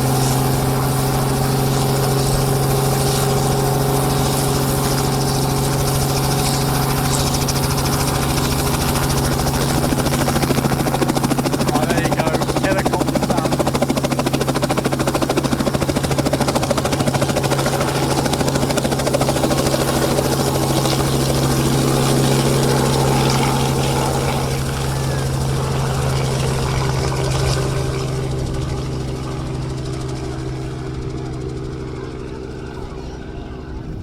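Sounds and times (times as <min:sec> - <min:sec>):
helicopter rotor beating: 0:00.0 - 0:34.0.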